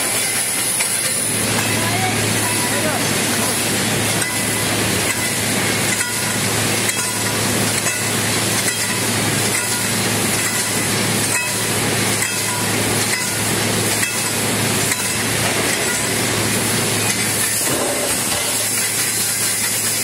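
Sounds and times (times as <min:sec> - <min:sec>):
welding machine humming and hissing: 0:00.0 - 0:20.0
machine knocking: 0:00.8 - 0:19.7.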